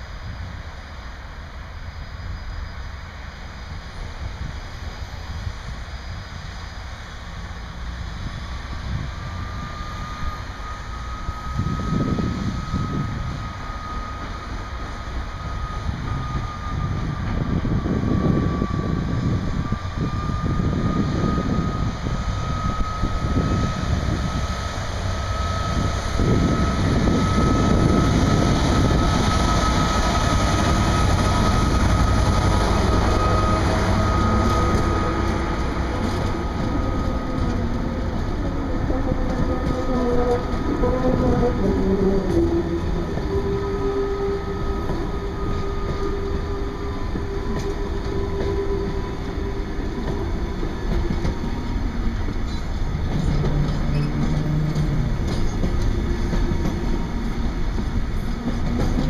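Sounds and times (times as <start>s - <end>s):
diesel locomotive engines: 0.0s - 59.0s
high steady whine: 0.0s - 59.0s
train wagons rumbling: 6.9s - 59.0s
wheel squeals: 9.4s - 59.0s.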